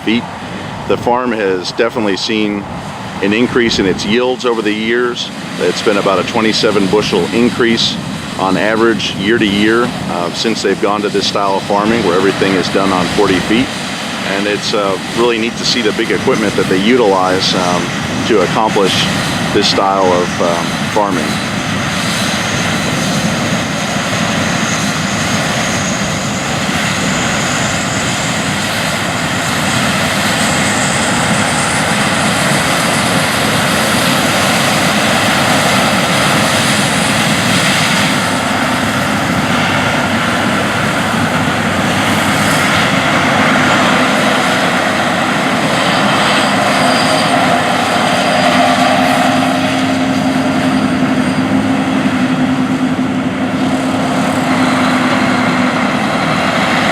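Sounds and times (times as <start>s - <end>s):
combine harvester drone: 0.0s - 56.9s.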